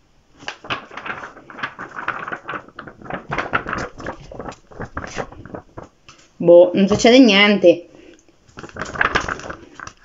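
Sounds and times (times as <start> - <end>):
notebook pages rustling: 0.3 - 7.3, 8.2 - 10.0.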